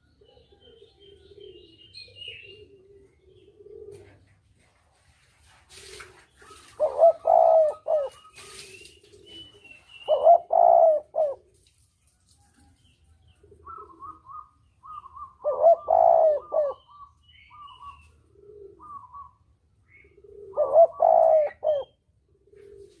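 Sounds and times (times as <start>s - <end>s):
dove cooing: 0.0s - 4.8s, 5.7s - 11.6s, 13.3s - 23.0s.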